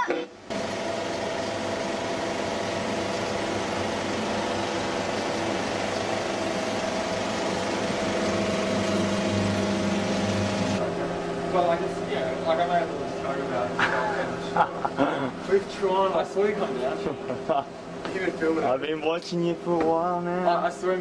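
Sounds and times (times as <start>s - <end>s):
projector machinery humming: 0.0s - 21.0s.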